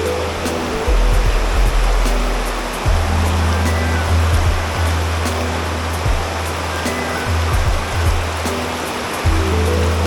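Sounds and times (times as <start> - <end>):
background music: 0.0 - 10.0
rushing water: 0.0 - 10.0.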